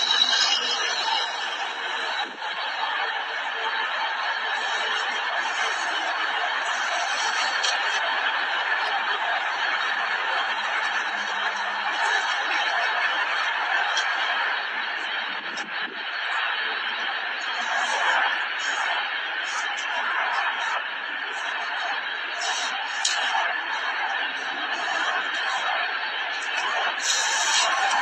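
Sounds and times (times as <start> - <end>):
people laughing: 0.0 - 28.0.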